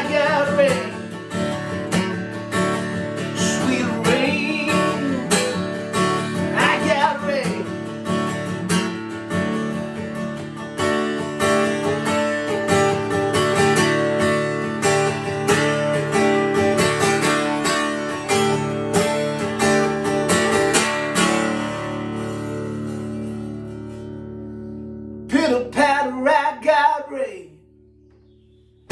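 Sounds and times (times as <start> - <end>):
acoustic guitar strumming: 0.0 - 28.9.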